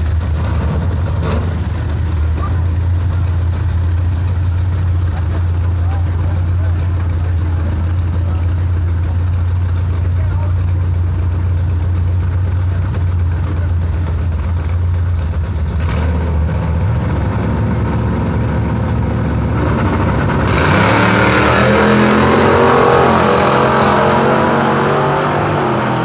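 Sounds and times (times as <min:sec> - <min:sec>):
drag-racing engines revving: 0:00.0 - 0:26.0.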